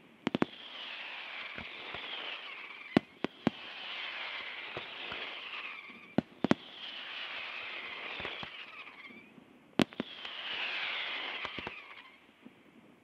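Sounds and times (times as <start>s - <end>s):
firework hiss: 0.2s - 12.2s
firework shells bursting: 0.3s - 12.2s.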